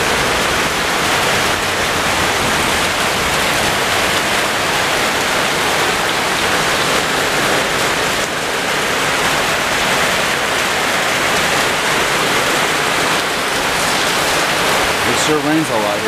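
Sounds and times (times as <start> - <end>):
heavy rain splashing into water: 0.0 - 16.0.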